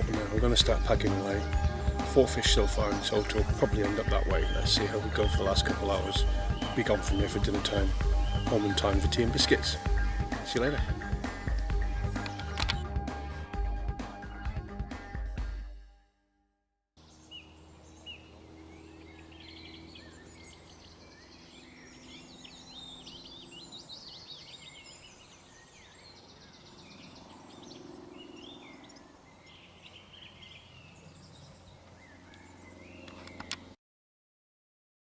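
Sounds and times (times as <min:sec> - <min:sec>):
small birds chirping and trilling: 0:00.0 - 0:15.3, 0:17.0 - 0:33.8.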